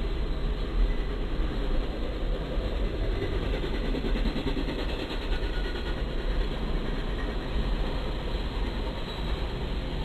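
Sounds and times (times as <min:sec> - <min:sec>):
freight train wheels on rail: 0:00.0 - 0:10.0.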